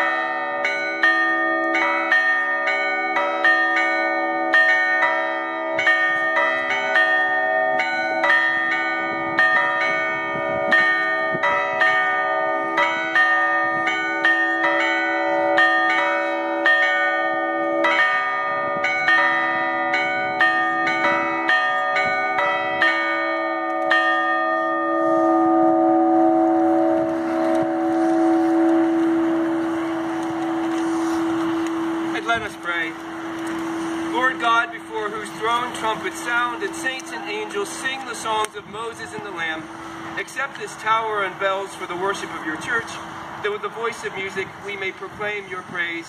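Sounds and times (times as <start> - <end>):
bells humming: 0.0 - 43.2
church bells pealing: 0.0 - 46.0.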